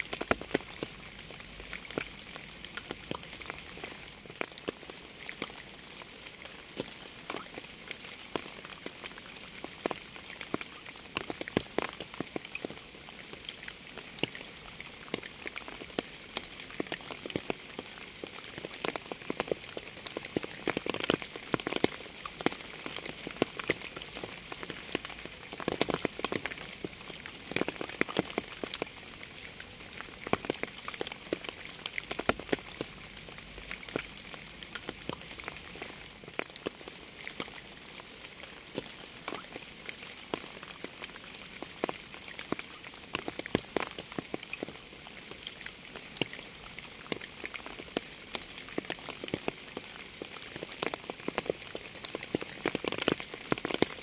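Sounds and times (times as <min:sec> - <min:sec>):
rain falling: 0:00.0 - 0:54.0
raindrops tapping on a surface: 0:00.0 - 0:54.0.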